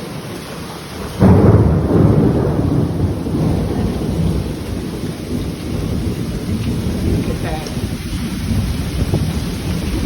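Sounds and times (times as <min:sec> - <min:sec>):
heavy rain and hail: 0:00.0 - 0:10.0
thunder crack and rumble: 0:00.0 - 0:10.0.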